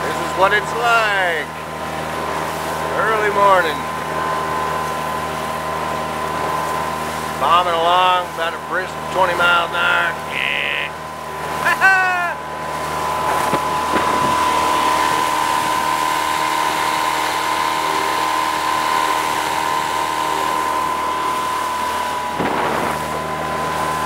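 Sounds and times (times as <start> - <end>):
outboard motor whining: 0.0 - 24.0
water rushing along hull: 0.0 - 24.0
wind: 0.0 - 24.0.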